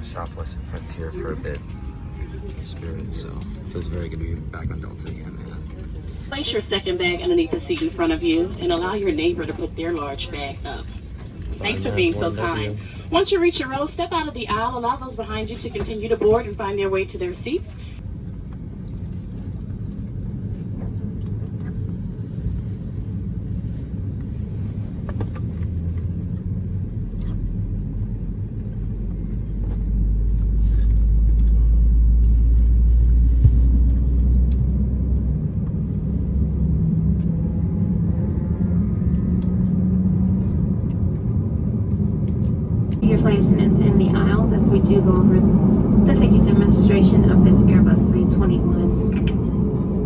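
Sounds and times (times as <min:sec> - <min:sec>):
airplane cabin rumble: 0:00.0 - 0:50.0.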